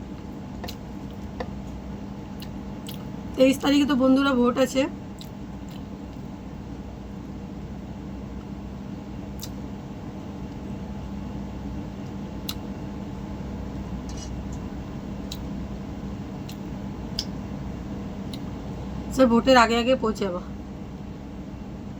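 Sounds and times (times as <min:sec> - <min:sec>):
electric fan humming: 0:00.0 - 0:21.9.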